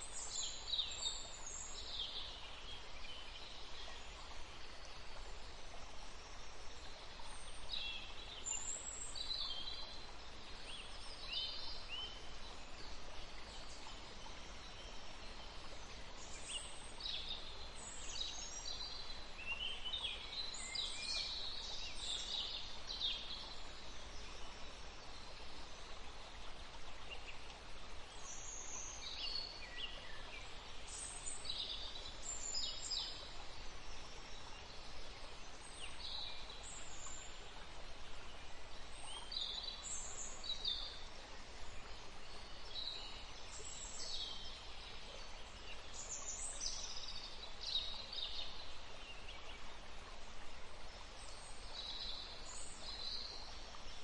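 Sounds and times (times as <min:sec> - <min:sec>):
soft background hiss: 0:00.0 - 0:54.0
songbirds chirping: 0:00.0 - 0:54.0.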